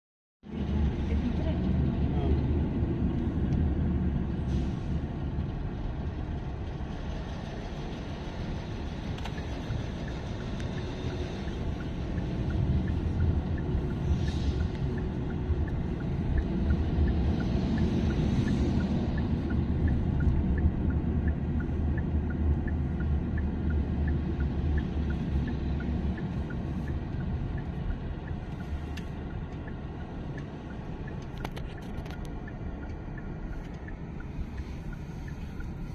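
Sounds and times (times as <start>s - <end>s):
truck engines and traffic rumbling: 0.5s - 35.9s.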